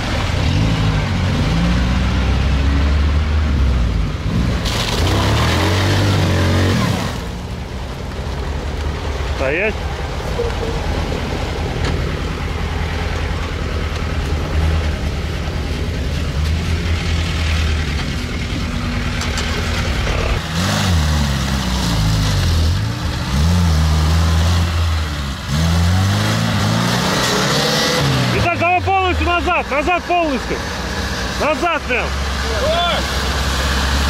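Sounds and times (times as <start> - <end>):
off-road vehicle engine revving: 0.0 - 8.0, 8.7 - 34.0.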